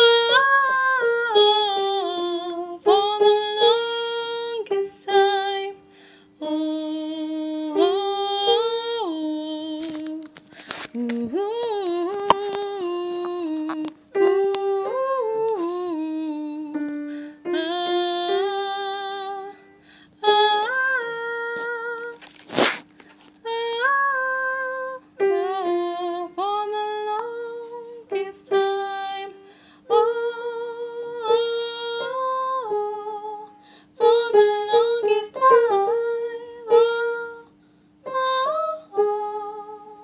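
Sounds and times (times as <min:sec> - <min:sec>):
woman singing without words: 0:00.0 - 0:22.3, 0:23.4 - 0:40.0.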